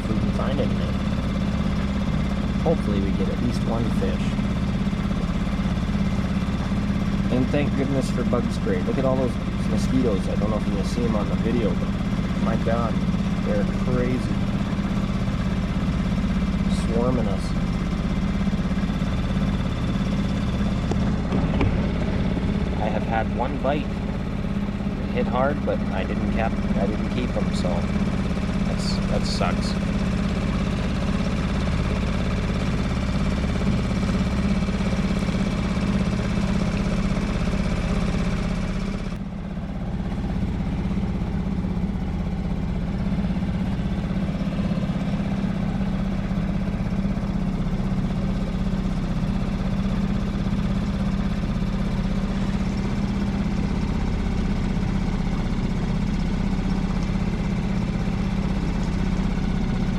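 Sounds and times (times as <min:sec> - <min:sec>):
small boat motor humming: 0:00.0 - 0:59.9.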